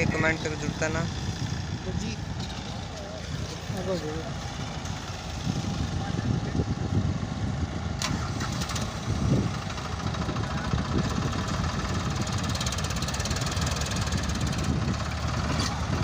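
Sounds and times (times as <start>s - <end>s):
diesel engines running: 0.0s - 16.0s.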